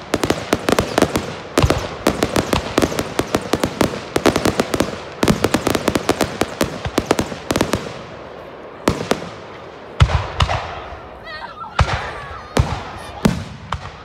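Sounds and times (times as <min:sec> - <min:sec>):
fireworks crackling pops: 0:00.0 - 0:11.0, 0:11.7 - 0:14.0
fireworks bangs: 0:00.0 - 0:14.0.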